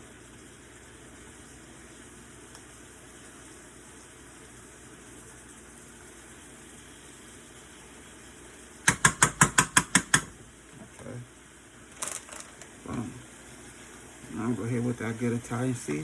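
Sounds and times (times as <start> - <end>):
shrimp sizzling in a pan: 0.0 - 8.8, 10.5 - 16.0.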